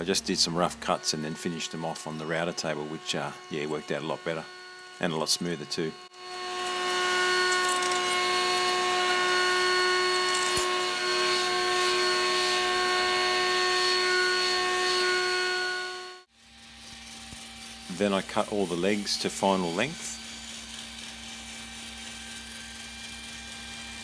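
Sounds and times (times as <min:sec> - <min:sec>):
router whining: 0:00.0 - 0:24.0.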